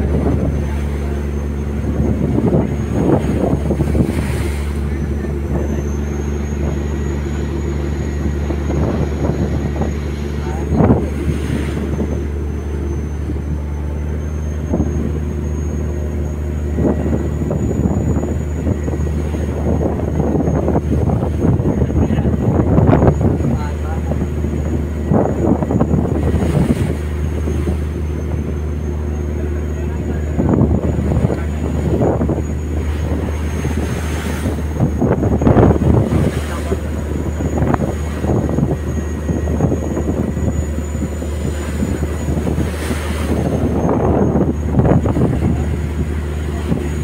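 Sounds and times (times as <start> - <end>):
boat engine droning: 0.0 - 47.0
rough sea rushing: 0.0 - 47.0
water noise: 0.0 - 47.0
wind: 0.0 - 47.0.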